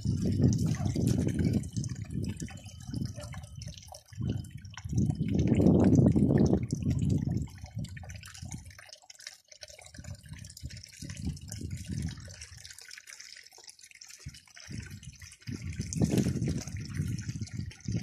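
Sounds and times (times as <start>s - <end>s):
water splashing through sluice box: 0.0s - 18.0s.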